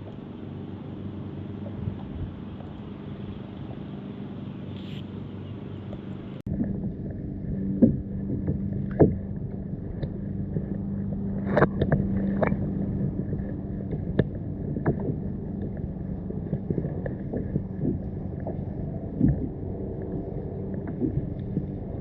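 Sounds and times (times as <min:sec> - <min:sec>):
low hum: 0:00.0 - 0:22.0
muffled water wash: 0:00.0 - 0:22.0.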